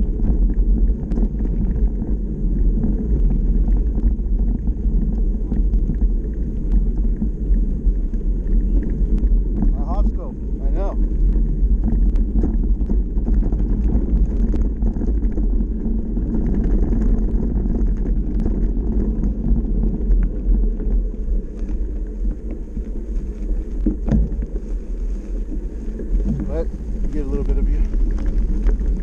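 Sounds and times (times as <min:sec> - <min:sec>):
bike ticks and rattles: 0:00.0 - 0:29.0
bike tyres rolling on gravel: 0:00.0 - 0:29.0.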